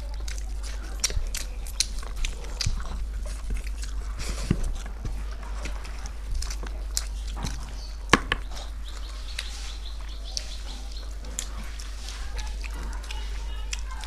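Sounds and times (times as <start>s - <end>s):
steady low hum: 0.0s - 14.0s
wet chewing and mouth smacks: 0.0s - 14.0s.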